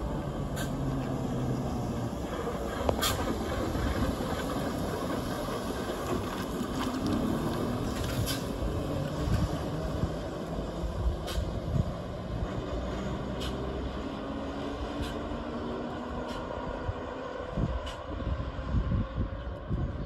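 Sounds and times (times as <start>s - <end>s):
trolleybus rumbling past: 0.0s - 20.0s.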